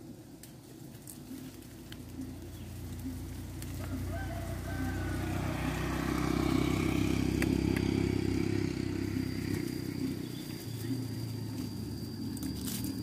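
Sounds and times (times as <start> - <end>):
motor engine running: 1.3 - 13.0.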